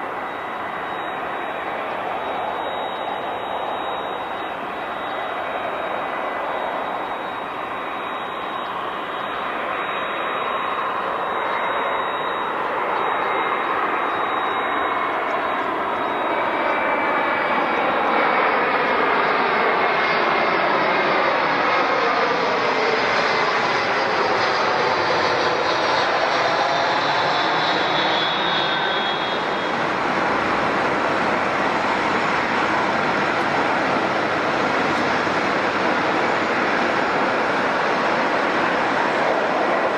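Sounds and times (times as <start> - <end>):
jet engines passing close by: 0.0 - 39.9.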